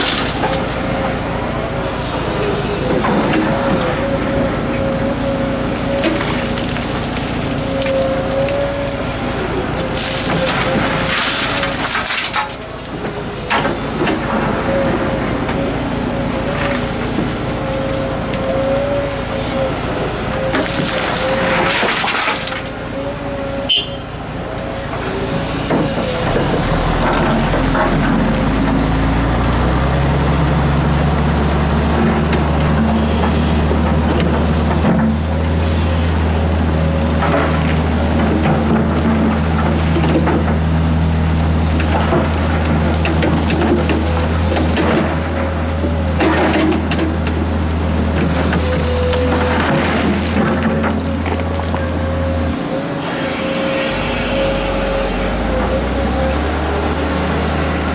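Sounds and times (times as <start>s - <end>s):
deep diesel engine rumble: 0.0s - 57.9s
excavator hydraulics whining: 0.0s - 57.9s.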